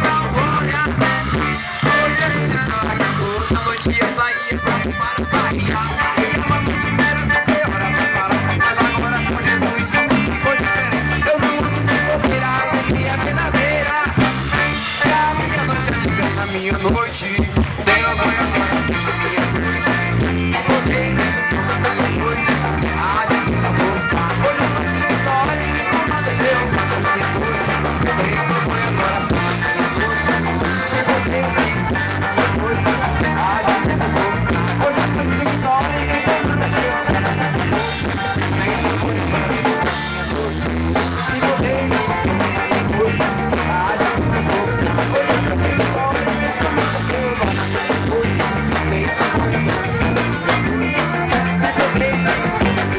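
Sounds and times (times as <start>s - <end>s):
band playing instrumental music: 0.0s - 52.9s.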